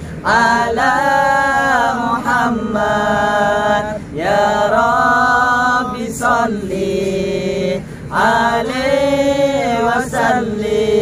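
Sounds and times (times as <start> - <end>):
voices chanting devotional song: 0.0 - 11.0.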